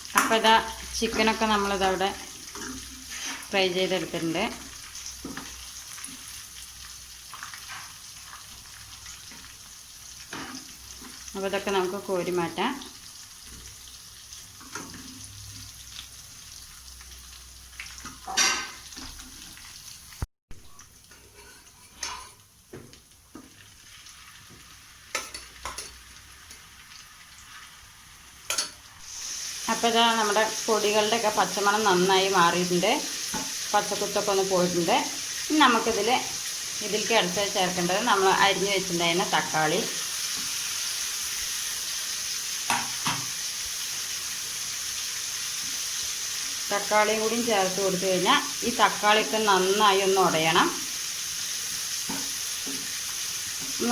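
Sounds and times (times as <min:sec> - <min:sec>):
masala sizzling in a frying pan: 0:00.0 - 0:53.9.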